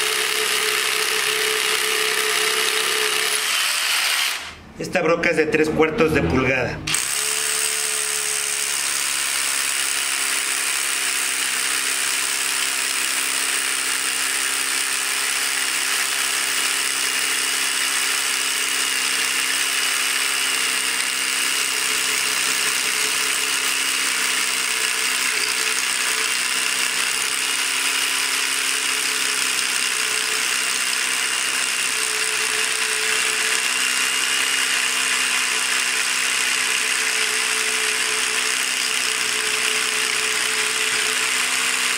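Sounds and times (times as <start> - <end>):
rotary hammer drilling into concrete: 0.0 - 4.6, 6.9 - 41.9.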